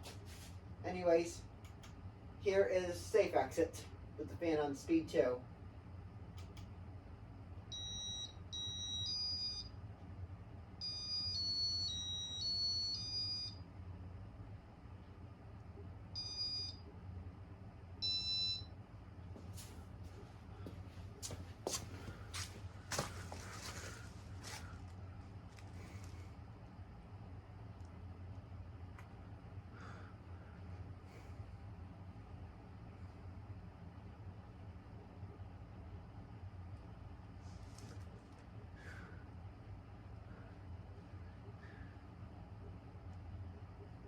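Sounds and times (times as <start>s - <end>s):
fan motor low hum: 0.0s - 44.0s.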